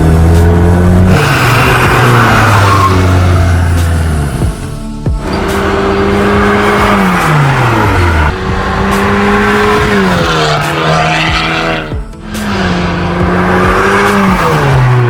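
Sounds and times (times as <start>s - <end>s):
car engine revving high: 0.0s - 15.0s.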